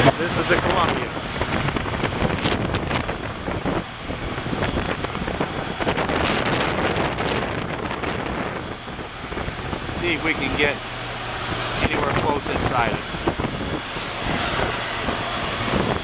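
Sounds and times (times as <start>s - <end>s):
boat engine running: 0.0s - 16.0s
water beneath boat: 0.0s - 16.0s
wind buffeting microphone: 0.0s - 16.0s.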